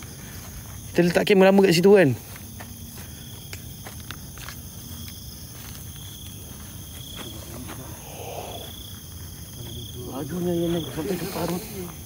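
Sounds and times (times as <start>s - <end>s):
buzzy insect chirp: 0.0s - 12.0s
high-pitched insect drone: 2.3s - 12.0s.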